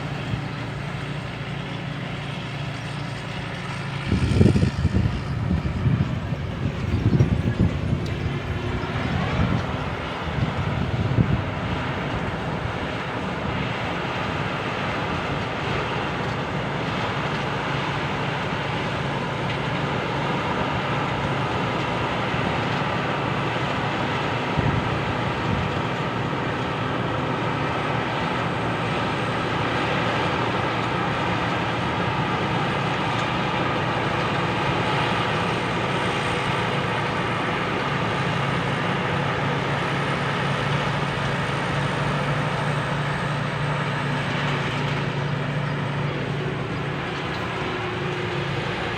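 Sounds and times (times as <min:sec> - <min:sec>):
diesel engine droning: 0:00.0 - 0:48.9
harvesting machinery working: 0:00.0 - 0:48.9.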